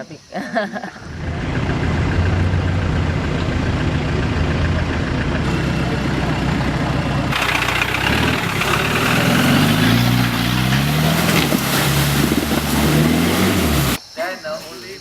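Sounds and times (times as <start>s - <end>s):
vehicle engine revving: 1.1s - 14.0s.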